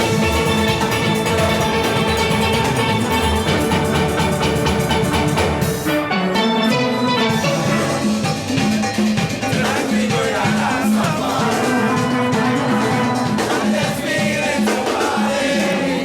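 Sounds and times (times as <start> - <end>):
driving drum beat: 0.0 - 6.1, 7.2 - 16.0
steel pans playing: 0.0 - 15.2.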